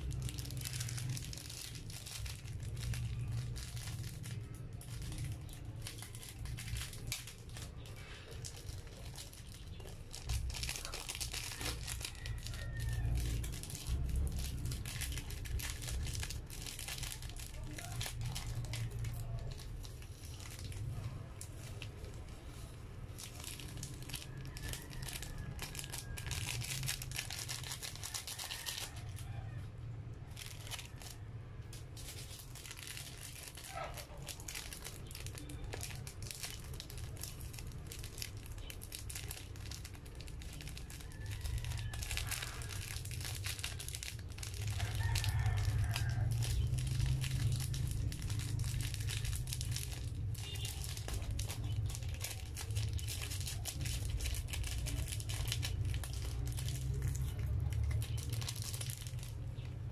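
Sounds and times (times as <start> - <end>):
plastic sachets crinkling: 0.0 - 59.9.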